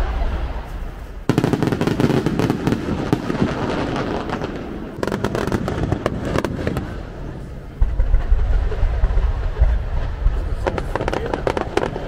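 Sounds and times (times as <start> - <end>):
aerial fireworks bursting: 0.0 - 12.0.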